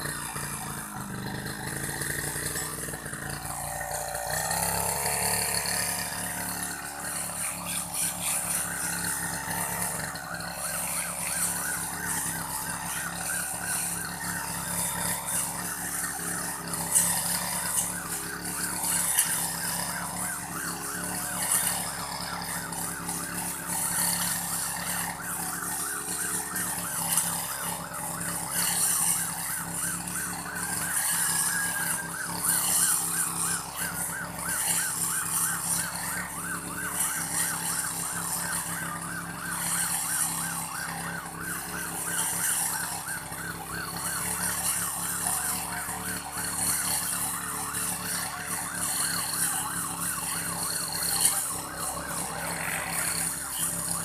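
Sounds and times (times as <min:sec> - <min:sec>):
brush cutter engine whining: 0:00.0 - 0:54.0.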